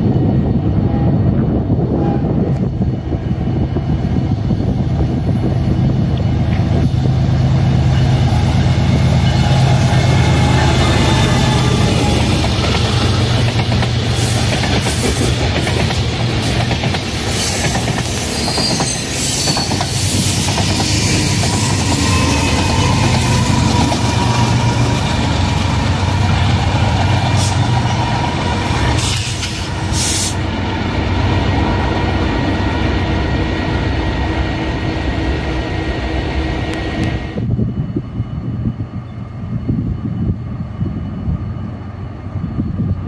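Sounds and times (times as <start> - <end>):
freight train rolling past: 0.0 - 43.0.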